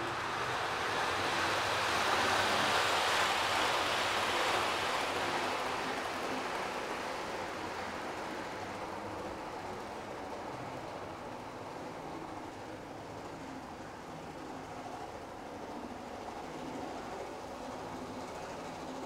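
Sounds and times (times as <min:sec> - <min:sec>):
model locomotive motor: 0:00.0 - 0:19.0
model train wheels rolling on rail: 0:00.0 - 0:19.0.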